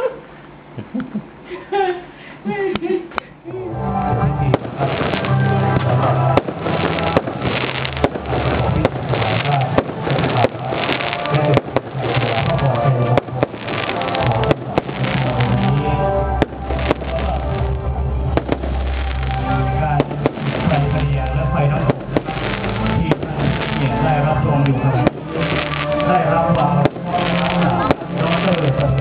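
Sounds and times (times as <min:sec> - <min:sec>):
music: 0:03.4 - 0:29.0
fireworks bangs and crackles: 0:04.4 - 0:29.0.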